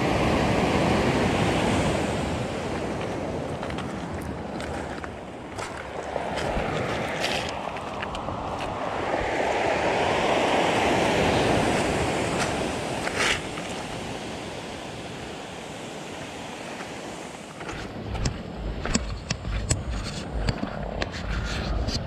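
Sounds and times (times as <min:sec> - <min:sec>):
surf washing on pebble beach: 0:00.0 - 0:20.6.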